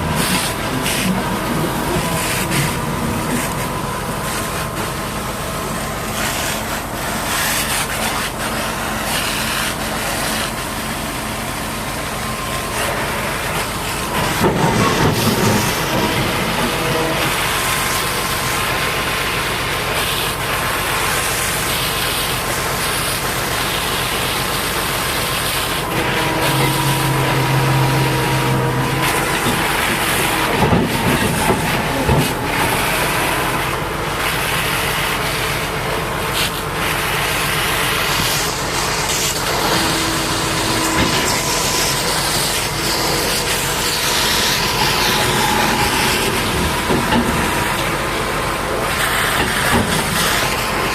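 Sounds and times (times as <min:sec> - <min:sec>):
high-pressure water spray hissing: 0:00.0 - 0:50.9
machine engine running: 0:00.0 - 0:50.9.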